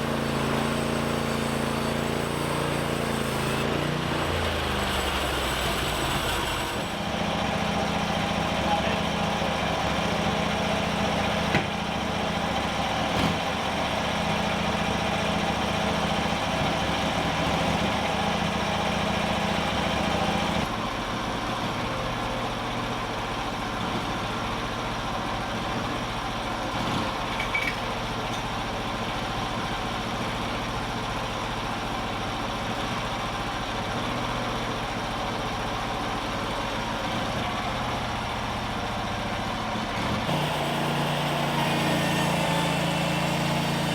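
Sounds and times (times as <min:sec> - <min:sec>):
engine idling: 0:00.0 - 0:43.9.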